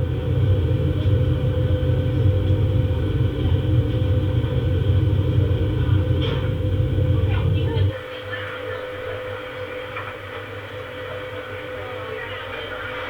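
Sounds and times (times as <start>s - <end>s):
constant hum: 0.0s - 13.0s
jet engine cabin rumble: 0.0s - 13.0s.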